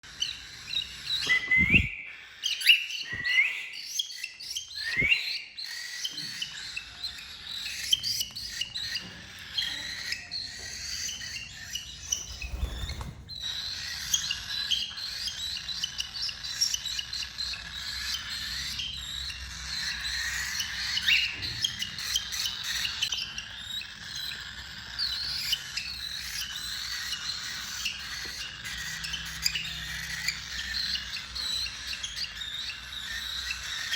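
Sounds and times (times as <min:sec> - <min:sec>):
cockatiels chirping: 0:00.0 - 0:33.9.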